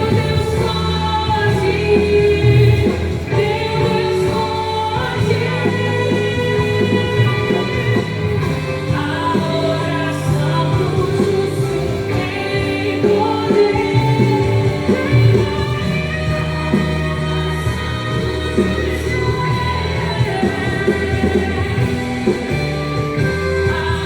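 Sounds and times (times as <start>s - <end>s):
worship song with sung vocals: 0.0s - 24.0s.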